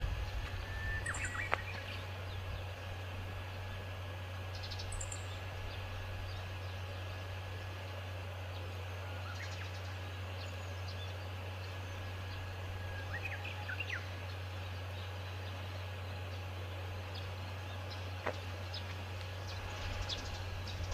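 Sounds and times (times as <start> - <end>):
small birds chirping: 0.0 - 20.9
steady low hum: 0.0 - 20.9.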